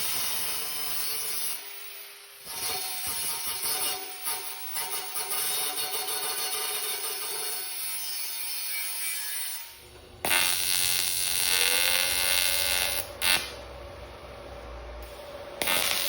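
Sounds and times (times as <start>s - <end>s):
welding buzz: 0.0s - 16.0s
cutoff wheel cutting metal: 0.3s - 13.8s, 15.0s - 16.0s.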